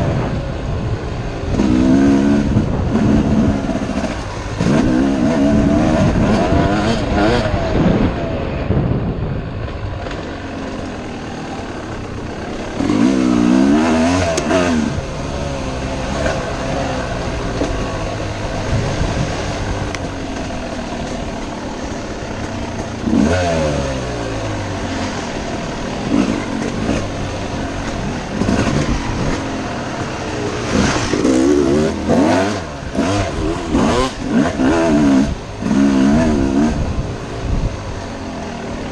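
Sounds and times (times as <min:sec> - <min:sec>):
dirt bike engine revving: 0:00.0 - 0:09.2, 0:10.0 - 0:38.9.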